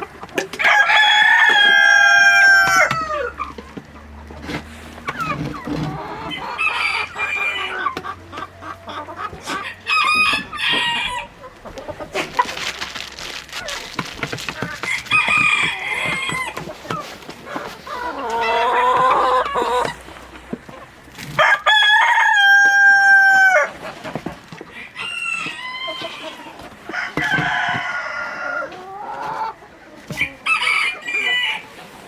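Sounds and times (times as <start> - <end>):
roosters crowing: 0.0 - 31.9
hens clucking: 0.0 - 32.0.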